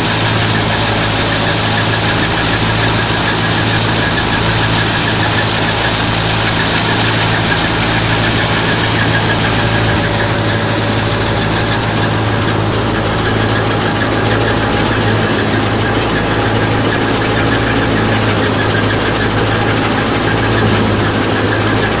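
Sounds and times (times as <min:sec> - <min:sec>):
tractor engine and thresher drone: 0:00.0 - 0:22.0.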